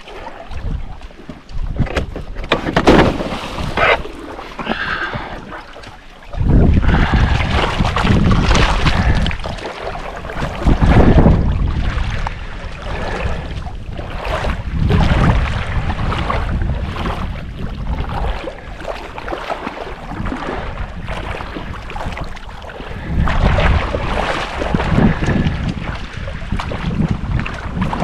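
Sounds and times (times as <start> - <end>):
lake water splashing: 0.0 - 28.0
wind buffeting microphone: 0.0 - 28.0.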